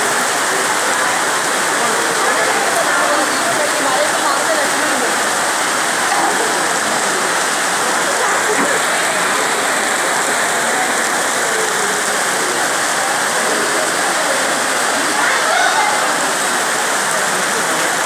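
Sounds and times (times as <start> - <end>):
faint voices talking: 0.0 - 18.0
heavy rain: 0.0 - 18.0.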